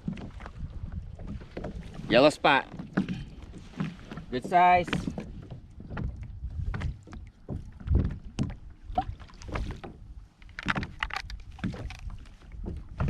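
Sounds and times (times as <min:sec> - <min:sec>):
wind on microphone: 0:00.0 - 0:02.4, 0:04.8 - 0:13.0
low rumble of water: 0:00.0 - 0:13.0.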